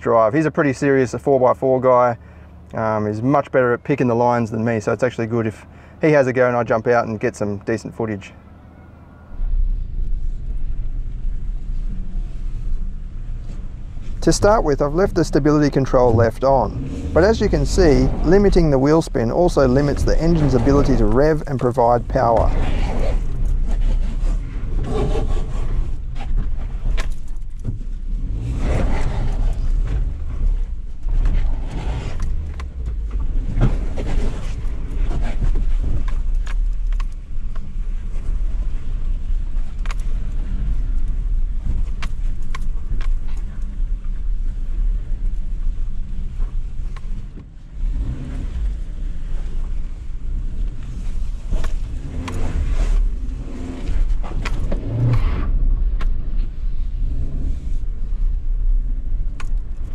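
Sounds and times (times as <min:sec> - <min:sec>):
car engine at low revs: 0:00.0 - 0:59.9.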